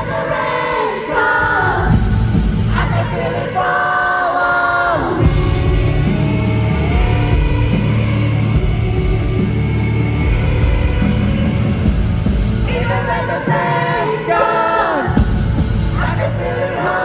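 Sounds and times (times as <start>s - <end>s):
rock band playing live: 1.7s - 3.8s, 4.4s - 17.0s.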